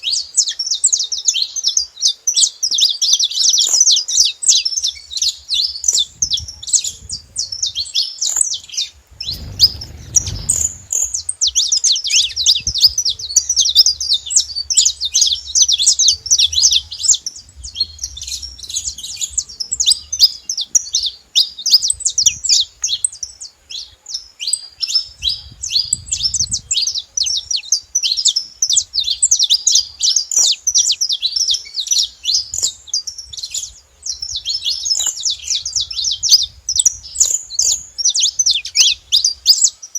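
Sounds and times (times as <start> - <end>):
finch singing chirps and trills: 0.0 - 39.9.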